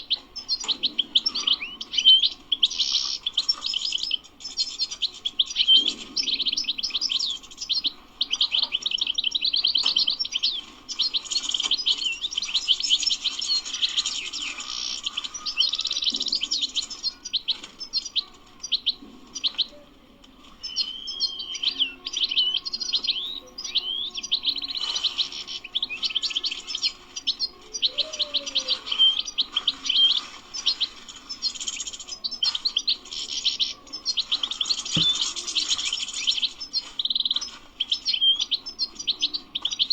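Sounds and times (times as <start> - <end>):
goldfinch twittering song: 0.0 - 19.8, 20.4 - 39.9.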